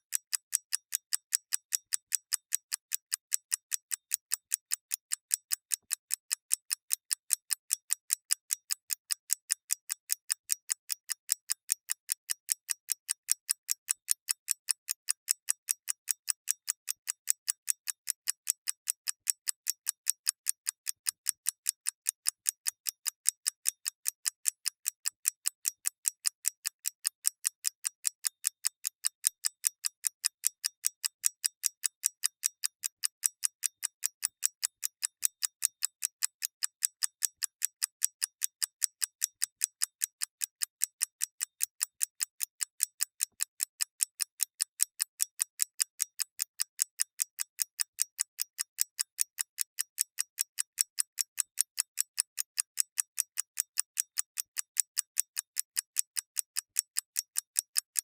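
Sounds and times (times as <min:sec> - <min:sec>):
clockwork escapement ticking: 0:00.1 - 0:58.0.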